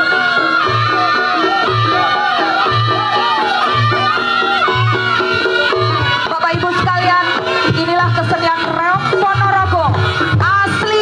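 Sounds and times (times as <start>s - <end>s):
hand drums: 0.0s - 11.0s
low drum beat: 0.0s - 11.0s
reedy shawm melody: 0.0s - 11.0s.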